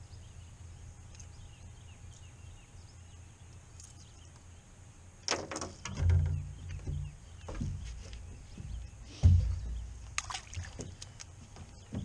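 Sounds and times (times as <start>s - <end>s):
birds chirping faintly: 0.0s - 12.0s
low steady rumble: 0.0s - 12.0s.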